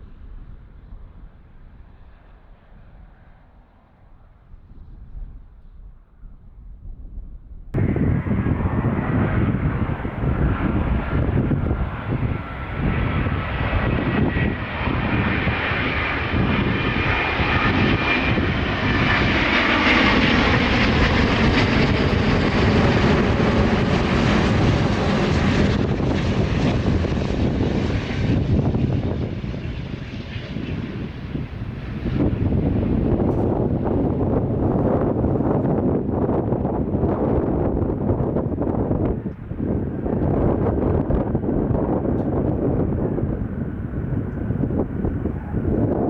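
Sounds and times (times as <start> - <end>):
airliner engines rumbling: 0.0 - 6.8, 7.8 - 46.0.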